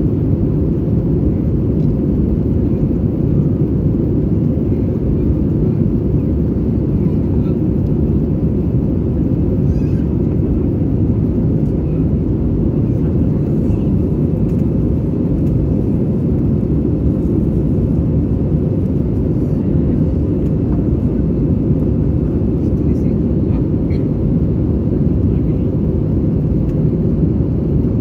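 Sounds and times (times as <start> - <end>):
jet engines roaring in cabin: 0.0 - 28.0.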